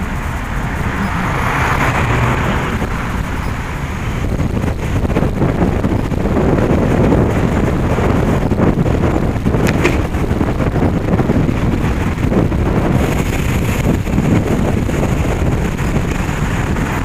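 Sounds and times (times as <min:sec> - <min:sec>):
car engine and tyre noise: 0:00.0 - 0:17.0
wind rushing over microphone: 0:00.0 - 0:17.0.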